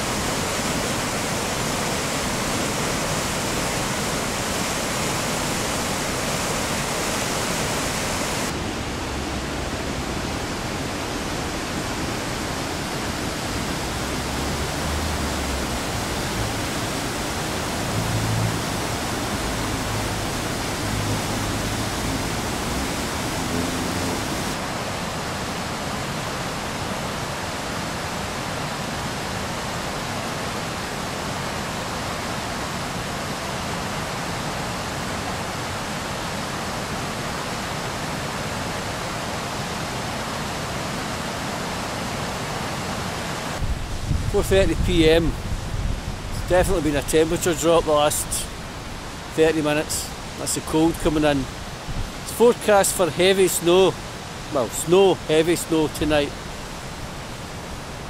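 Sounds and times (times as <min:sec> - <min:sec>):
river rushing over rapids: 0:00.0 - 0:58.0.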